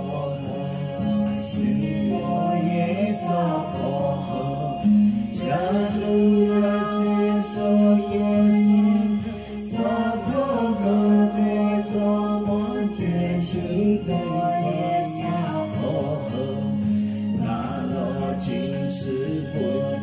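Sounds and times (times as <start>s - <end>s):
man singing devotional song: 0.0s - 20.0s
sustained instrumental backing: 0.0s - 20.0s.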